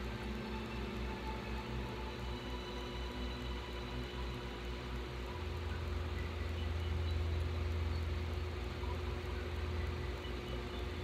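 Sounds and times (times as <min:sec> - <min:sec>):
electric pump motor humming: 0:00.0 - 0:11.0.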